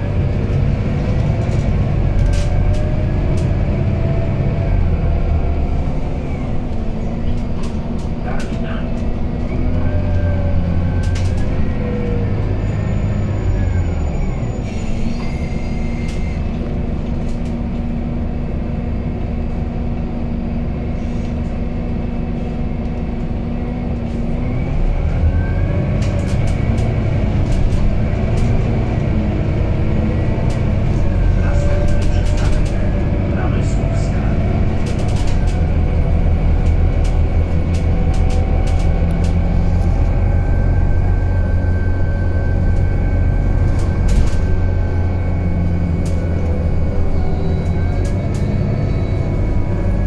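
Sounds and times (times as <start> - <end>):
bus engine whine and hum: 0.0 - 50.0.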